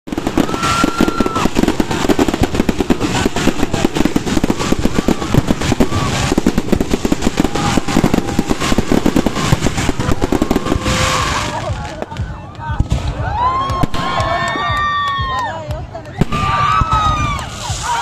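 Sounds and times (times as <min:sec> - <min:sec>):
firecrackers crackling: 0:00.1 - 0:18.0.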